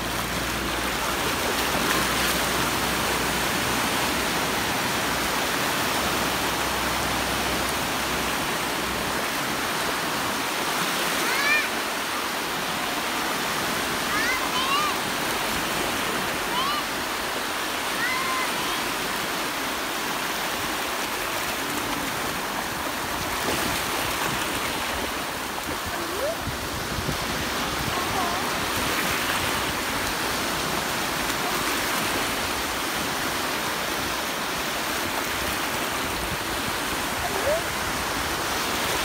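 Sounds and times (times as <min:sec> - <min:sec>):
small waves breaking on sand: 0:00.0 - 0:39.0.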